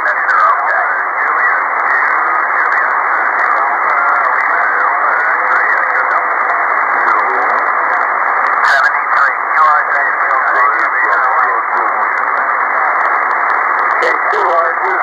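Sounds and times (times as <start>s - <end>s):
garbled radio voices: 0.0s - 15.0s
radio static: 0.0s - 15.0s.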